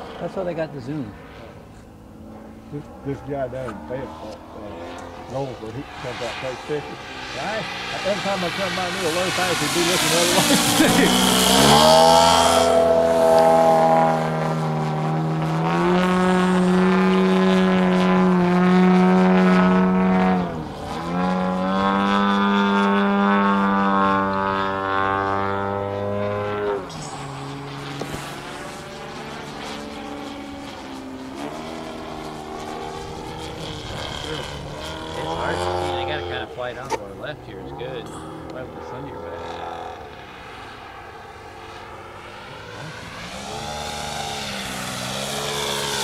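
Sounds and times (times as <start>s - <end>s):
model airplane engine drone: 0.0s - 46.0s.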